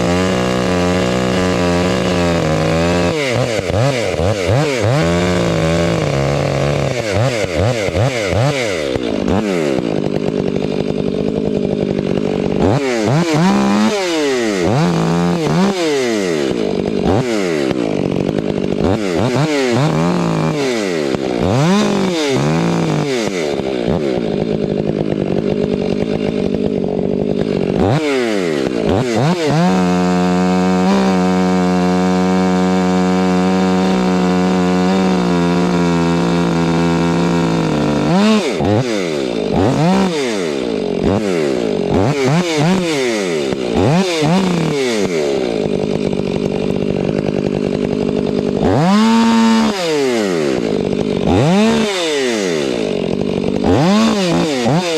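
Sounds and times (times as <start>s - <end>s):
chainsaw engine revving: 0.0s - 54.9s.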